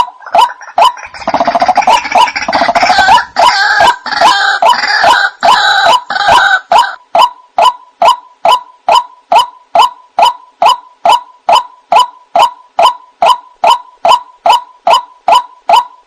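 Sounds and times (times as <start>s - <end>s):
waterhen croaking calls: 0.0s - 16.0s.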